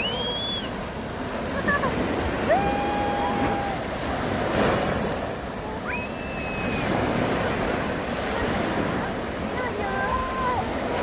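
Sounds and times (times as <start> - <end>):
sea surf breaking: 0.0 - 11.0.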